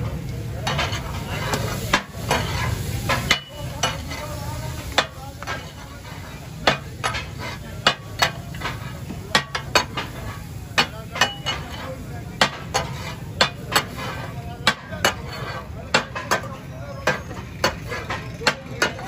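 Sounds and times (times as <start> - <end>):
frying sizzle: 0.0 - 19.0
metal spatula clanking on griddle: 0.2 - 19.0.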